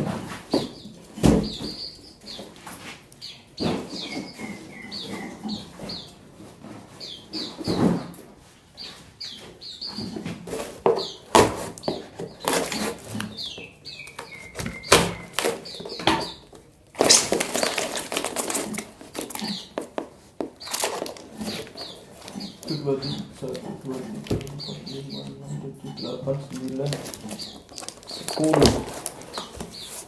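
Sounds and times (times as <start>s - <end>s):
rustling and scuffling: 0.0s - 30.0s
small songbirds chirping: 0.4s - 30.0s.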